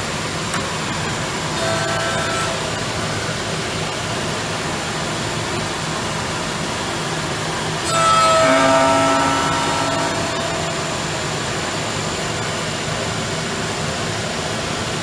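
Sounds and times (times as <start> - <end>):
lathe machine whir: 0.1 - 14.2
lathe cutting whine: 0.7 - 13.8.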